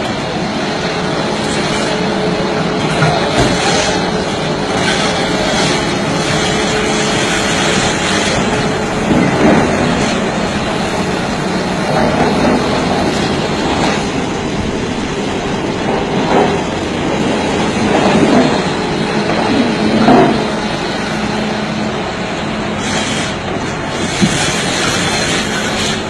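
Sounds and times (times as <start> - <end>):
heavy machinery crushing rocks: 0.0 - 26.0.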